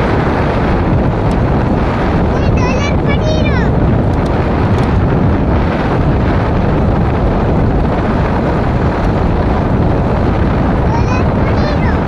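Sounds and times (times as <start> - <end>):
vehicle road noise: 0.0 - 12.0
wind buffeting microphone: 0.0 - 12.0.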